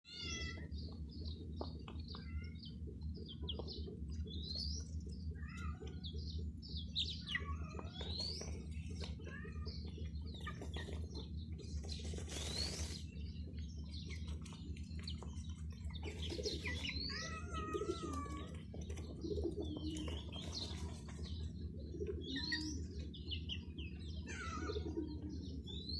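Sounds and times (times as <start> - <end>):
chicks peeping: 0.1 - 25.9
steady low hum: 0.1 - 25.9.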